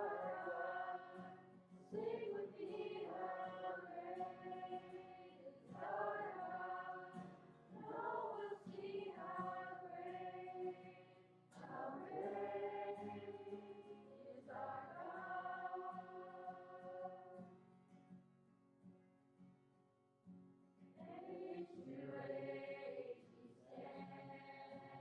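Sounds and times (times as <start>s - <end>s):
congregation singing: 0.0s - 17.5s, 21.0s - 25.0s.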